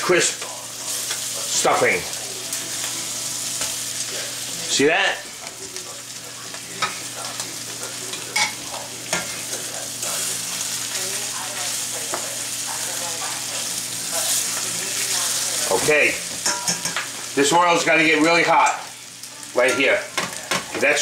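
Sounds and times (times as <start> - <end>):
patties sizzling in hot oil: 0.0 - 21.0.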